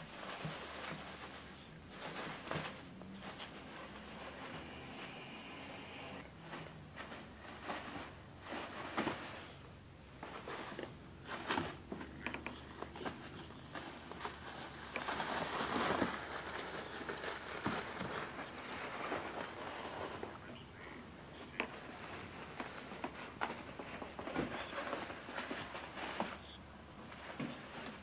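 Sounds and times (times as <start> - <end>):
paper towels rustling and crinkling: 0.0 - 28.0.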